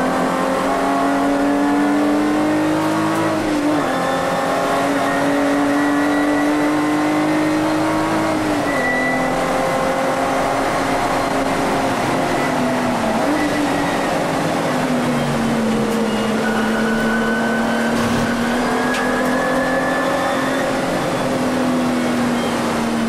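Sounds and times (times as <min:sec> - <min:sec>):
car engine at high revs: 0:00.0 - 0:23.0
road noise: 0:00.0 - 0:23.0.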